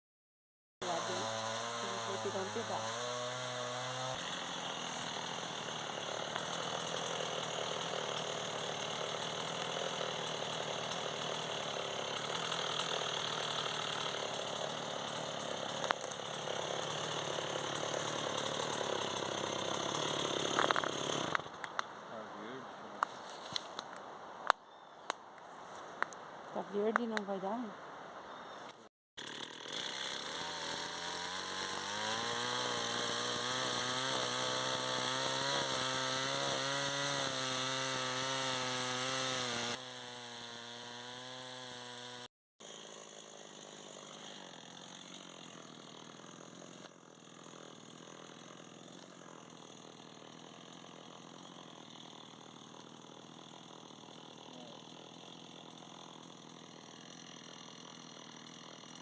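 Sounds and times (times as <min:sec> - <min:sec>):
chainsaw cutting wood: 0:00.8 - 0:21.9, 0:26.6 - 0:27.7, 0:29.2 - 0:59.0.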